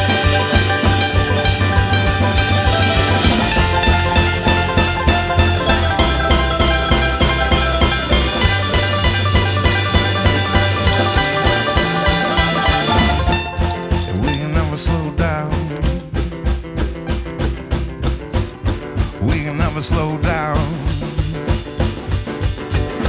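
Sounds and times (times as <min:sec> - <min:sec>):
acoustic string band playing: 0:00.0 - 0:18.6.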